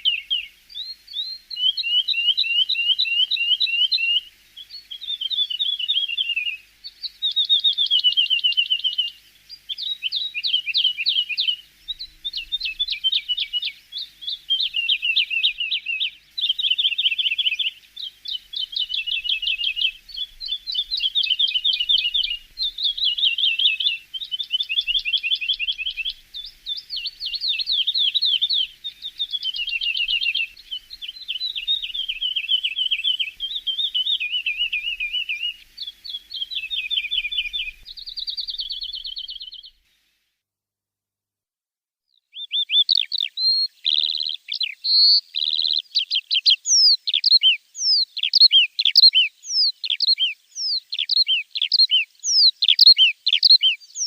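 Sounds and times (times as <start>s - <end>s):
bird singing rattling trills: 0.0s - 39.8s, 42.4s - 54.0s.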